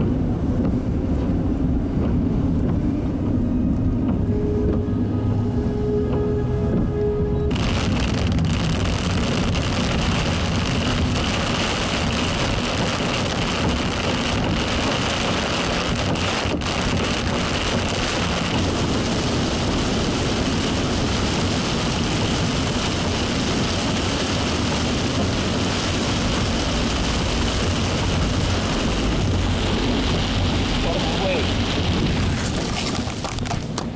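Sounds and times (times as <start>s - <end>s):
car road and engine noise: 0.0s - 33.9s.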